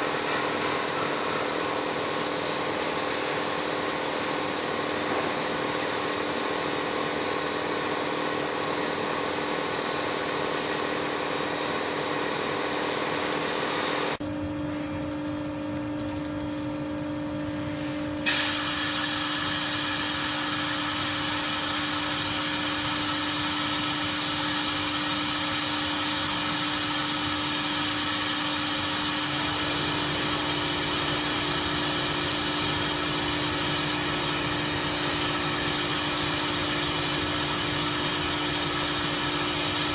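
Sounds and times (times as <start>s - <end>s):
welding machine hum: 0.0s - 39.9s.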